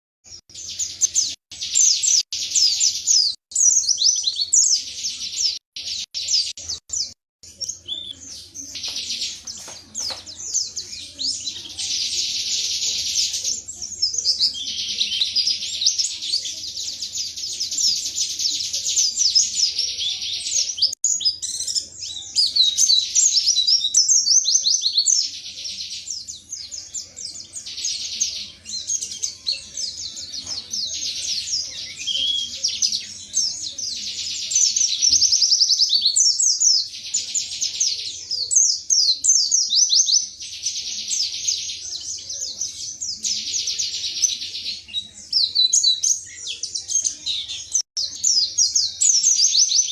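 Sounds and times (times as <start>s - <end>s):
bird twittering song: 0.3s - 49.9s.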